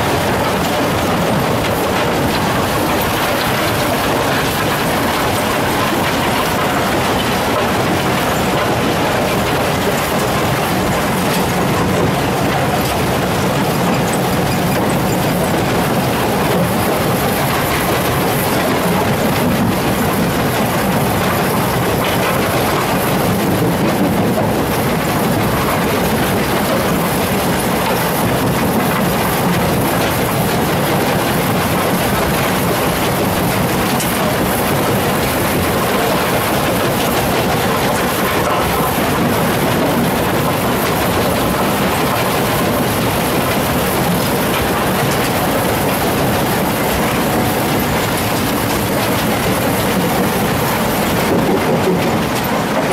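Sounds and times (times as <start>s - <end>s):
crushers and conveyors rumbling: 0.0s - 52.9s.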